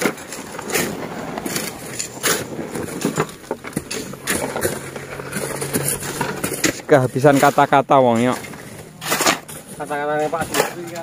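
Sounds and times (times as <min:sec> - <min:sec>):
board scraping over gravelly soil: 0:00.0 - 0:11.0
stones knocking: 0:00.0 - 0:11.0.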